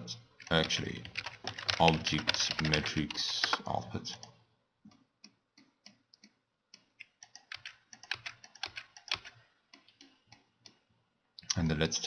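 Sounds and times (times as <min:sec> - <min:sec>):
keyboard and mouse clicking: 0:00.4 - 0:11.6.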